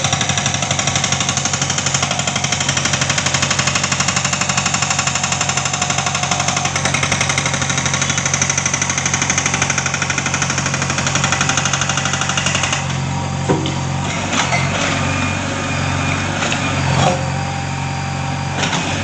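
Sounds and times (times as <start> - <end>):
hydraulic hammer pounding rock: 0.0 - 15.3
diesel engine running: 0.0 - 19.0.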